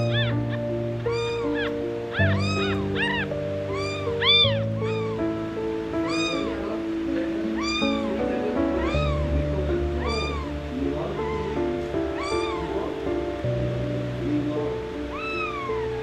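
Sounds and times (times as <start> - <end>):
kitten meowing: 0.0 - 13.4, 14.8 - 16.0
background music with sustained notes: 0.0 - 16.0.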